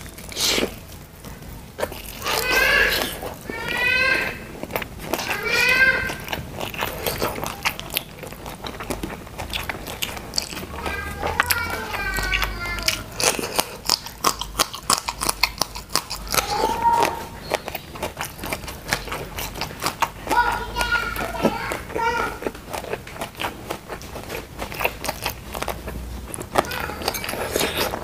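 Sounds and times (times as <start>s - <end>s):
crunchy bites and chewing: 0.0s - 28.0s.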